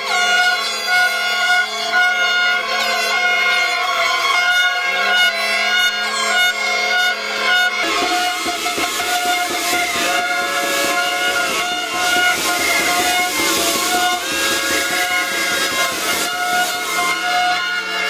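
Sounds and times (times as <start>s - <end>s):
air horns blowing: 0.0s - 18.0s.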